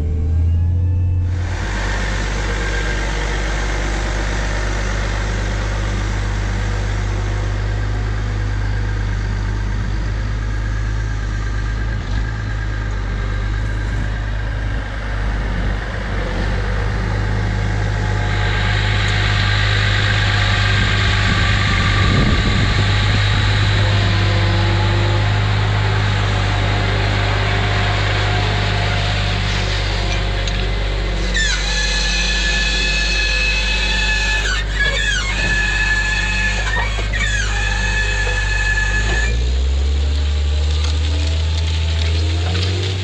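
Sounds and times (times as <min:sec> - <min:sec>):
tractor diesel engine drone: 0:00.0 - 0:43.0.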